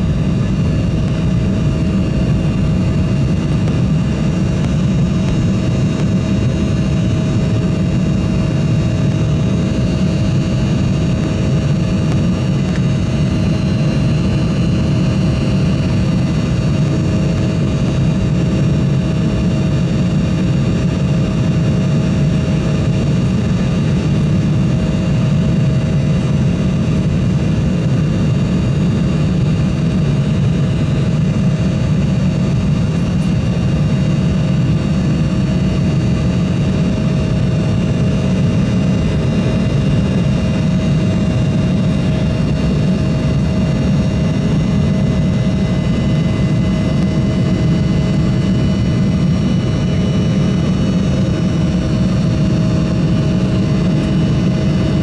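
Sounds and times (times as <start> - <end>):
jet engines at takeoff power: 0.0 - 55.0.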